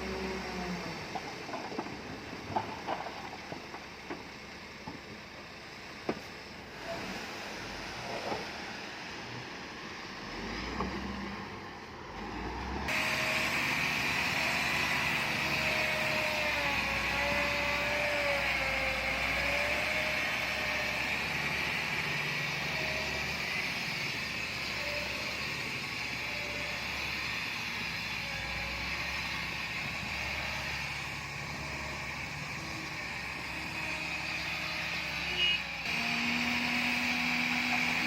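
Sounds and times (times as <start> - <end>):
heavy machinery engine drone: 0.0 - 38.0.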